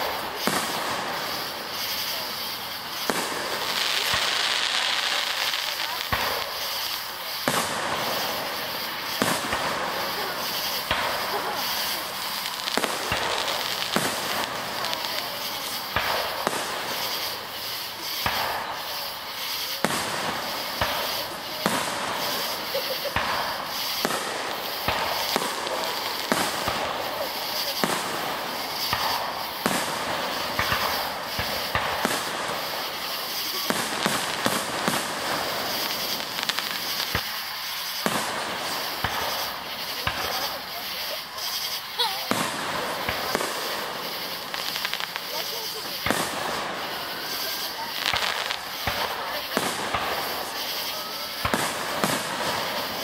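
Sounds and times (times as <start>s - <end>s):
background noise: 0.0s - 53.0s
firework crackling: 0.0s - 53.0s
firework shells bursting: 0.0s - 53.0s.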